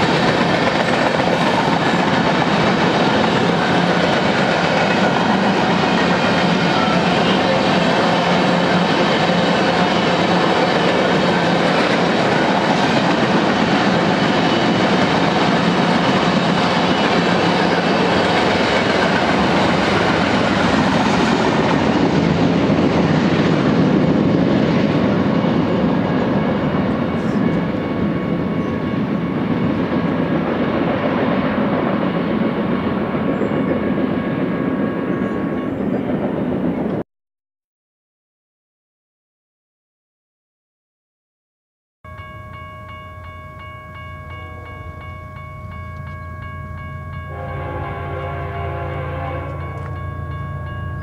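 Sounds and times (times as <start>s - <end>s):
freight train rolling past: 0.0s - 37.0s, 42.1s - 51.0s.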